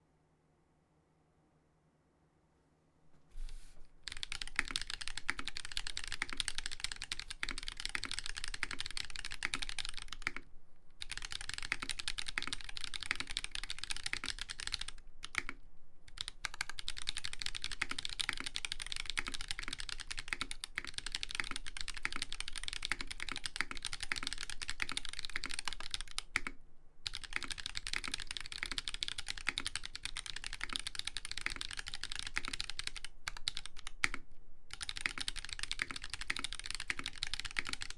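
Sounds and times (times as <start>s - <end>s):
fast mechanical keyboard typing: 4.0s - 37.9s.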